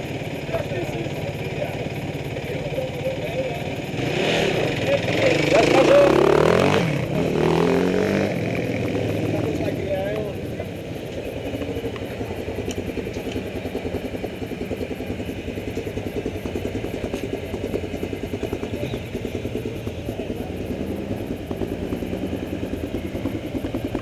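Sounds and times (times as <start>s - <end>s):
quad bike engines idling: 0.0s - 24.0s.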